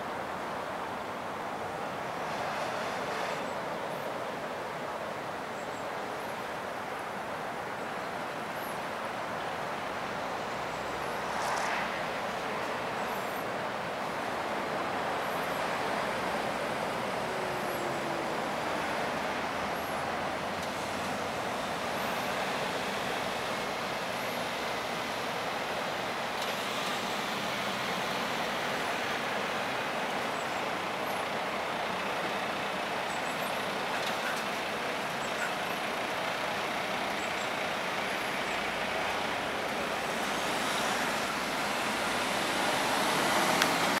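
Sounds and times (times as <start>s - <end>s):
road traffic hiss: 0.0s - 44.0s.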